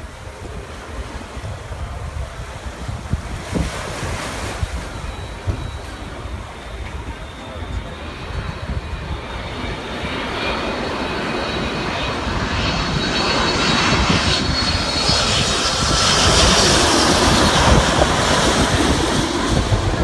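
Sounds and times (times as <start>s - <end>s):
jet airliner engines with whine: 0.0s - 20.0s.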